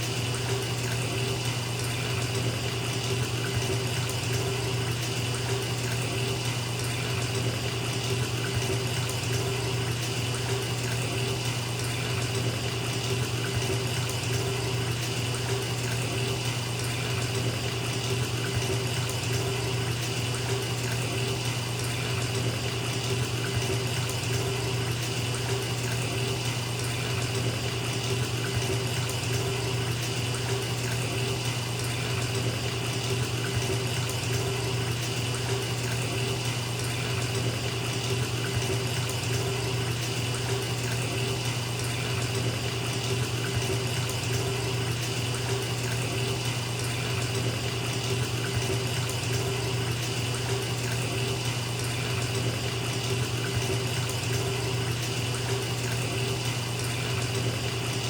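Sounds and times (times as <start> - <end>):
tap water pouring into bathtub: 0.0 - 58.0.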